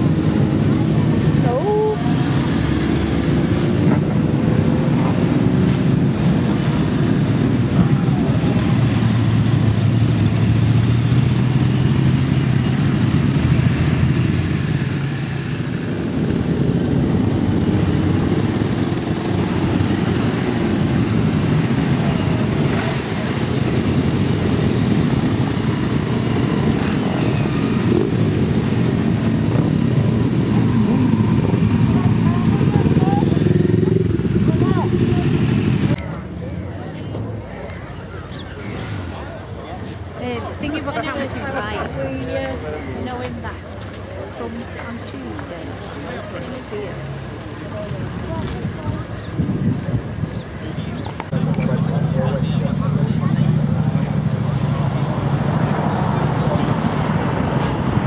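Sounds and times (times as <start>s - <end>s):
motorcycle engines idling and revving: 0.0s - 58.0s.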